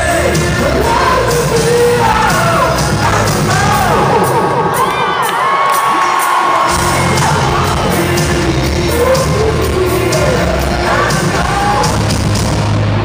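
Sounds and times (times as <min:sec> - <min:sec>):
crowd cheering and whooping: 0:00.8 - 0:13.0.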